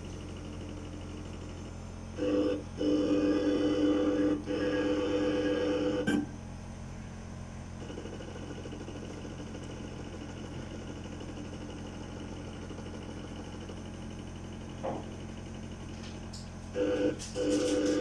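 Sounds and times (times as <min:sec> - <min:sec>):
milling machine hum: 0:00.0 - 0:18.0.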